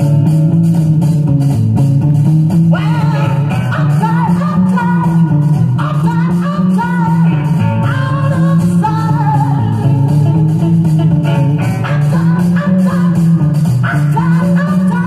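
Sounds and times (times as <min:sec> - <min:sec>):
rock song from a vinyl record: 0:00.0 - 0:15.0.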